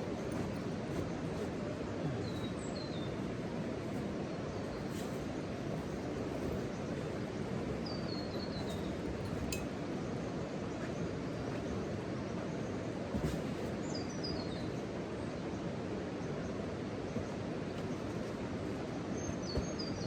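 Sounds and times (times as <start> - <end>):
birds chirping: 0.0 - 9.7, 10.6 - 20.0.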